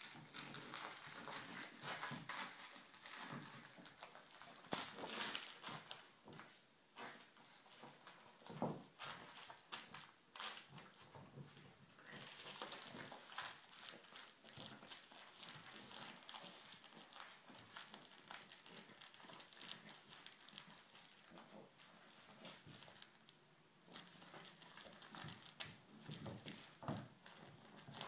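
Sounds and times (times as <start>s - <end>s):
puppy rustling on blanket: 0.0s - 23.3s, 23.9s - 28.0s.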